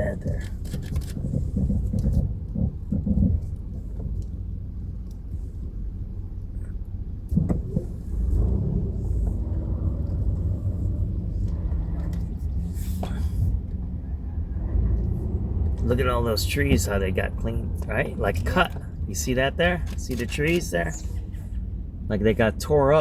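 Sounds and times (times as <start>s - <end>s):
car driving slowly: 0.0s - 23.0s.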